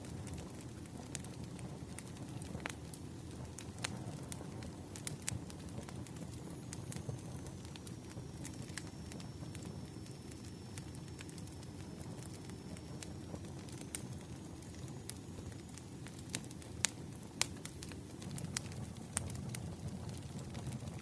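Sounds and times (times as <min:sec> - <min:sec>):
fire crackling and popping: 0:00.0 - 0:21.0
low rustle of fire: 0:00.0 - 0:21.0.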